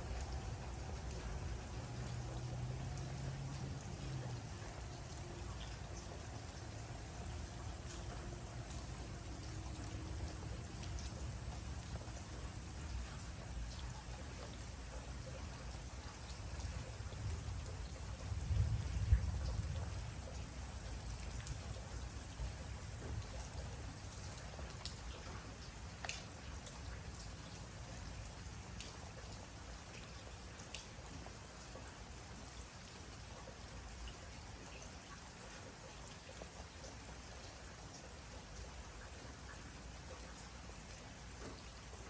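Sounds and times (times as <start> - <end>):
raindrops ticking: 0.0 - 42.0
steady rain hiss: 0.0 - 42.0.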